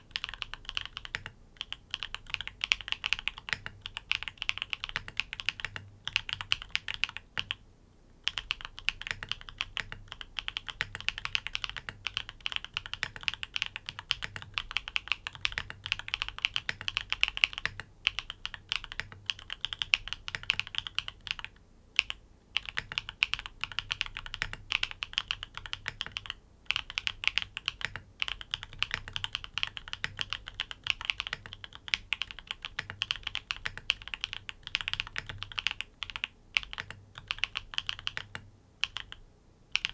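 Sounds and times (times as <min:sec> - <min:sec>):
fast typing on mechanical keyboard: 0:00.0 - 0:07.6, 0:08.2 - 0:39.9.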